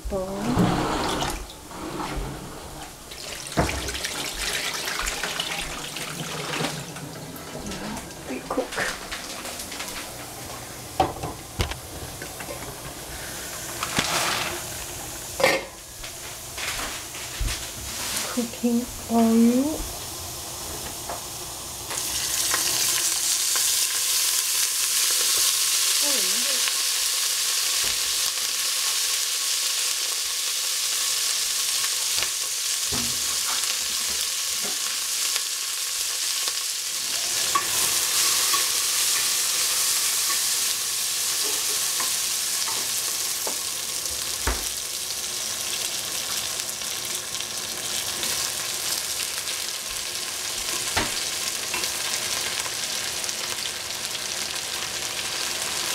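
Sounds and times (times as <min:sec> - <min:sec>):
food sizzling in hot oil: 0:02.8 - 0:55.9.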